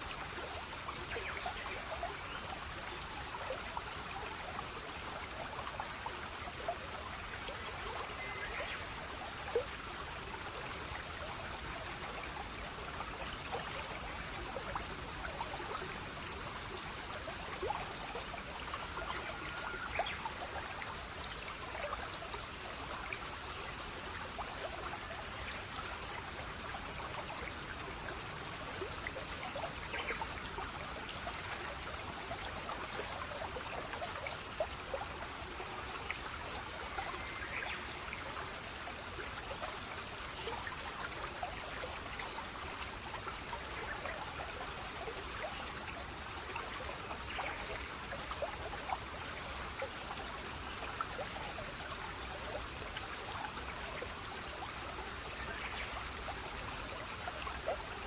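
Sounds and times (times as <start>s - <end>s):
stream trickling: 0.0s - 58.0s
water drips and splashes: 0.0s - 58.0s.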